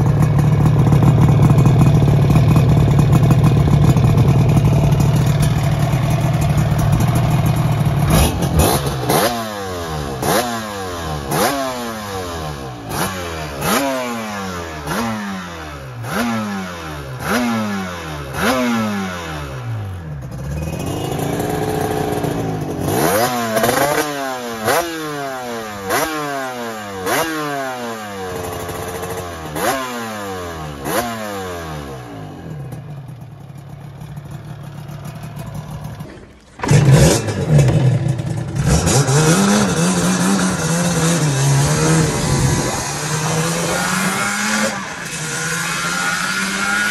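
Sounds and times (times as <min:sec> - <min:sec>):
two-stroke motorcycle engine revving: 0:00.0 - 0:46.9.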